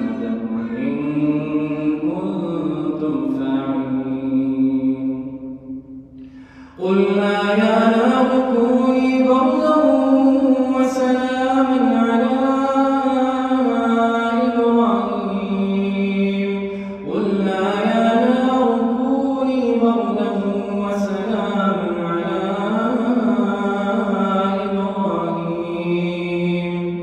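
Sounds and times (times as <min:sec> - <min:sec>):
man chanting through a microphone: 0:00.0 - 0:05.3, 0:06.8 - 0:27.0.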